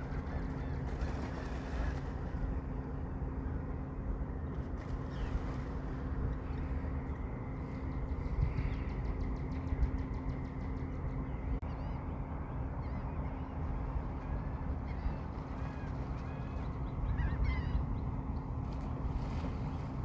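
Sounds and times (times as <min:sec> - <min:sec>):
faint constant hum: 0:00.0 - 0:20.0
seabirds calling: 0:00.0 - 0:20.0
steady low rumble: 0:00.0 - 0:20.0.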